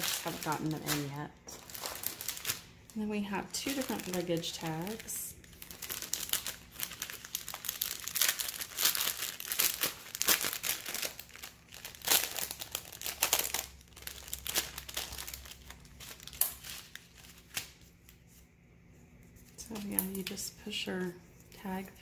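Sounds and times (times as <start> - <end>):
plastic bag crinkling: 0.0 - 18.1.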